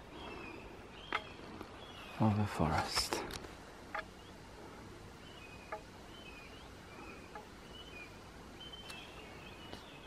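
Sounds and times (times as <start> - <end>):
birds chirping and whistling: 0.0 - 2.5, 4.0 - 10.0
outdoor hush: 0.0 - 10.0.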